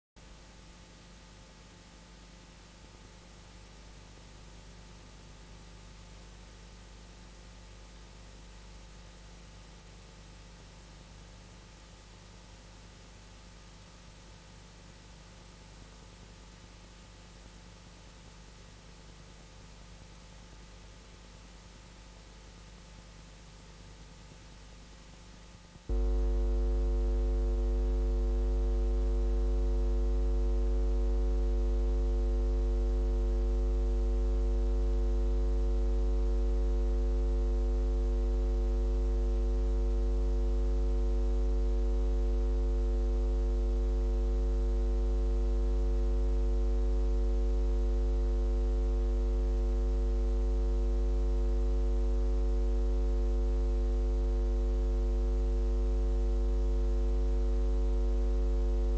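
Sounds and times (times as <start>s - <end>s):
electrical mains hum: 0.2s - 58.9s.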